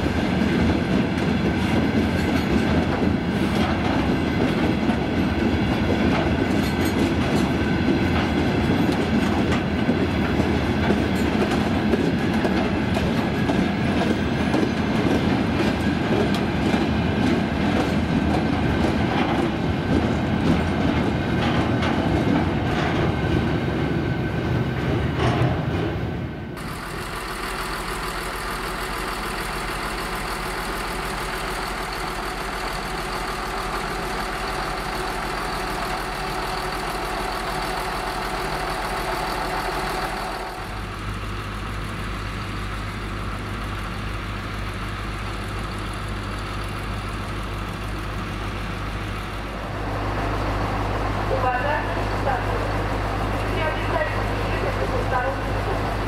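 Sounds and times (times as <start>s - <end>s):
diesel railbus engine idling: 0.0s - 56.0s
freight train wheels clacking: 0.0s - 56.0s.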